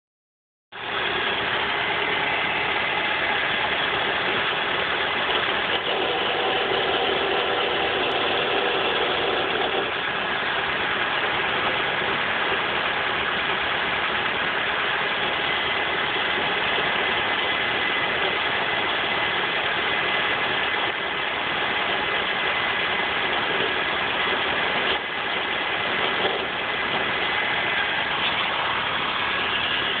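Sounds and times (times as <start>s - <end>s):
car engine running: 0.7s - 30.0s
persistent rattle: 0.8s - 30.0s.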